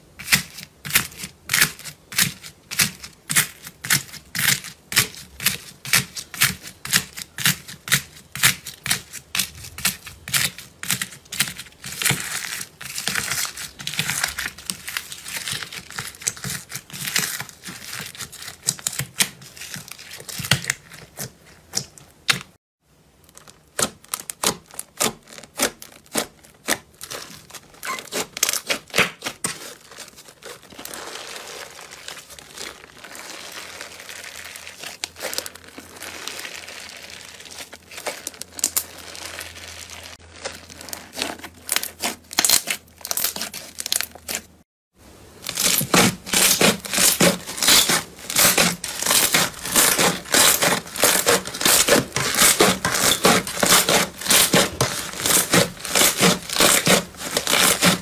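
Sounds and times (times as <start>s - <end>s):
slime crackling and popping: 0.2s - 22.4s, 23.2s - 44.5s, 45.4s - 58.0s.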